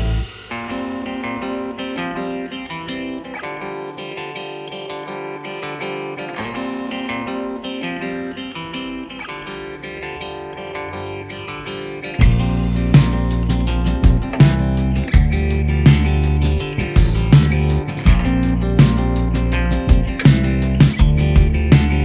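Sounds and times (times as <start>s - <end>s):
plucked guitar melody: 0.0s - 22.0s.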